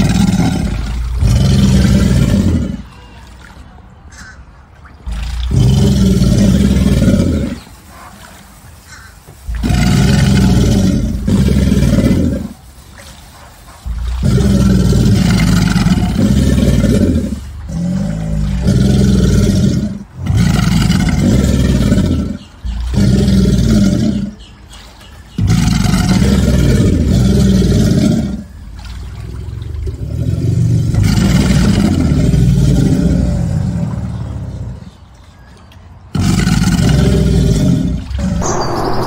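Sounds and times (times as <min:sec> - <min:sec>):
alligator bellowing: 0:00.0 - 0:03.1, 0:05.0 - 0:07.7, 0:08.9 - 0:12.6, 0:13.9 - 0:24.6, 0:25.4 - 0:35.0, 0:36.1 - 0:39.0.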